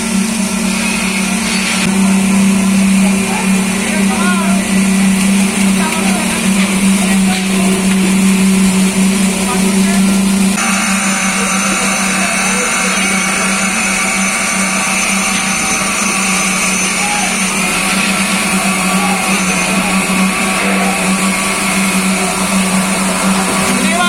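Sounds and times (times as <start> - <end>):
concrete pouring machinery hum: 0.0 - 24.0.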